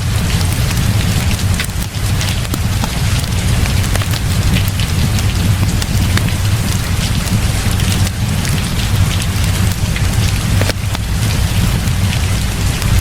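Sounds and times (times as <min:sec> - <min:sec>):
heavy rain falling: 0:00.0 - 0:13.0
sharp ticks of raindrops: 0:00.0 - 0:13.0.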